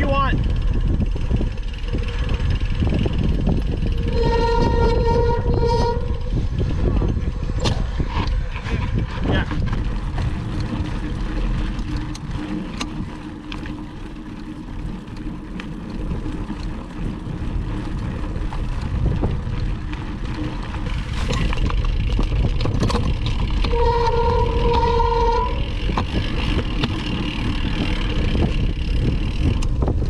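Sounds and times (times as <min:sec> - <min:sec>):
bike rattling and clicking: 0:00.0 - 0:30.0
wind buffeting microphone: 0:00.0 - 0:30.0.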